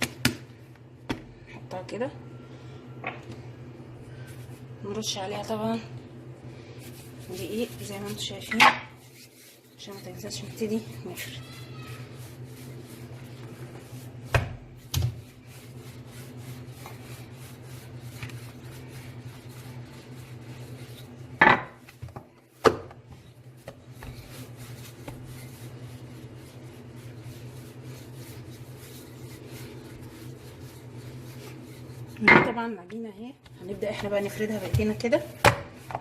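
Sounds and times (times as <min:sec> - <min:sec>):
rolling pin rubbing on dough: 0:06.6 - 0:36.0.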